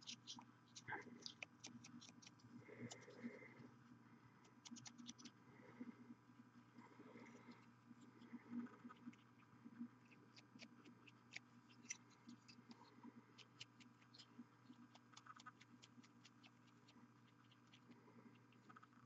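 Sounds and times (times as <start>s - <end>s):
faint light ticks and scratches: 0.0s - 5.4s, 6.4s - 19.0s
steady low hum: 0.0s - 19.0s.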